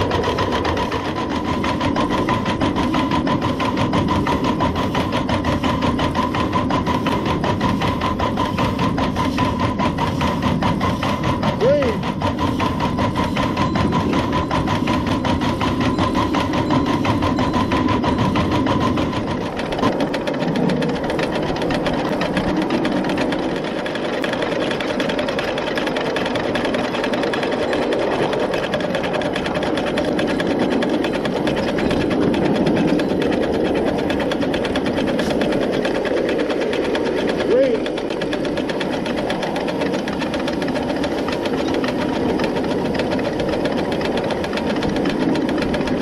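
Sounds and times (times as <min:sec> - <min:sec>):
steam locomotive clatter: 0:00.0 - 0:46.0.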